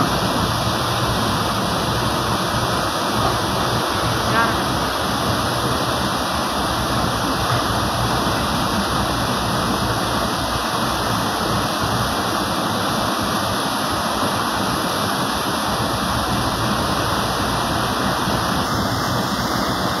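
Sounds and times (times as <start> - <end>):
river rapids rushing: 0.0 - 20.0.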